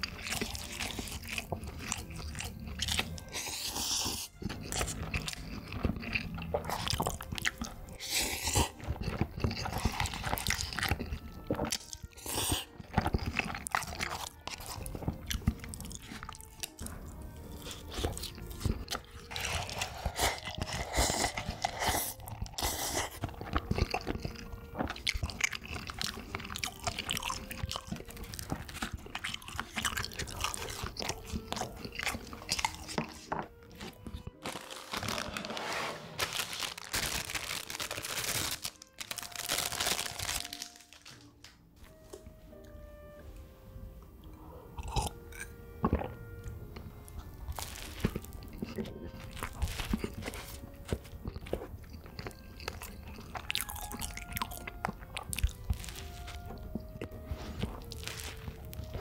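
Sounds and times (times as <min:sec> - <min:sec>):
person crunching and chewing: 0:00.0 - 0:41.2, 0:44.8 - 0:59.0.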